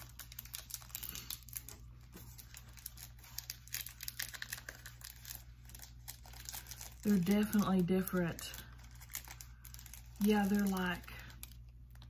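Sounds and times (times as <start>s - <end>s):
plastic wrapper crinkling and tearing: 0.0s - 12.0s.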